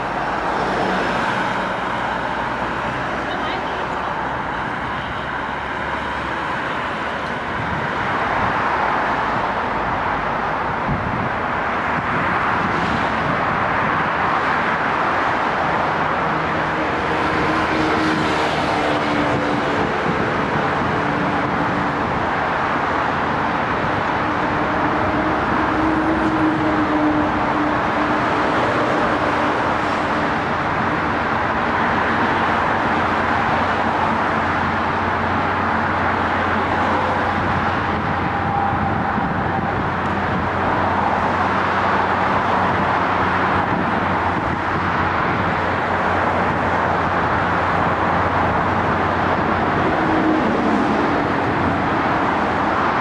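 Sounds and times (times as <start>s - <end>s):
road traffic noise: 0.0s - 53.0s.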